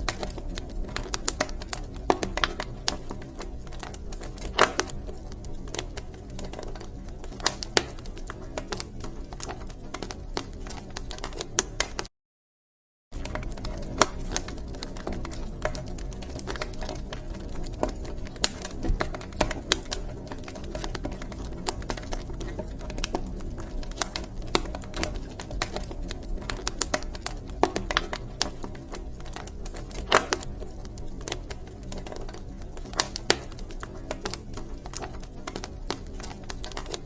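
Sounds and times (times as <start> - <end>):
low rumble of burning: 0.0 - 12.1, 13.2 - 37.0
wood fire pops and snaps: 0.0 - 12.1, 13.2 - 37.0.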